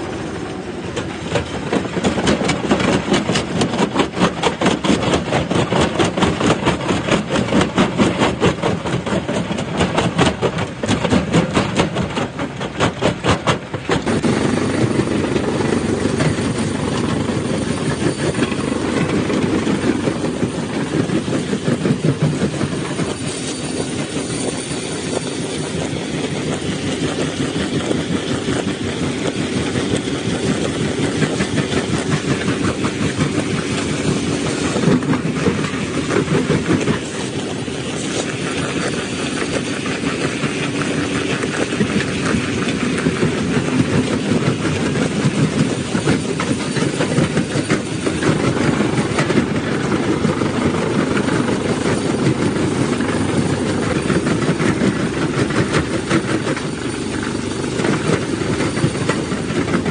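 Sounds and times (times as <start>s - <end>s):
grinding rumble: 0.0s - 59.9s.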